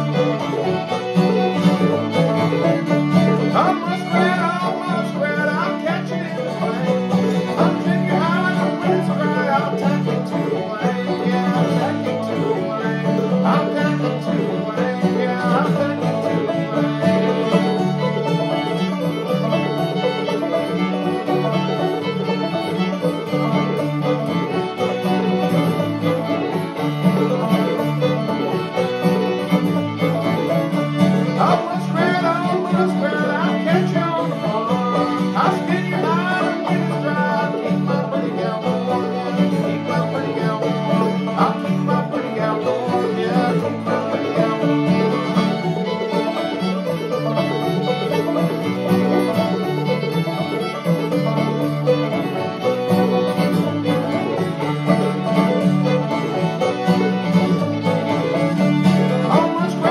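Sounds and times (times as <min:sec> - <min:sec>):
acoustic guitar strumming: 0:00.0 - 0:59.9
banjo picking: 0:00.0 - 0:59.9
fiddle: 0:00.0 - 0:59.9.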